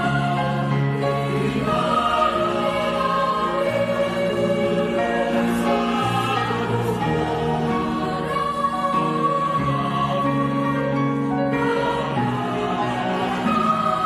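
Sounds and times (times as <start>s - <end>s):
youth choir singing in harmony: 0.0s - 14.0s.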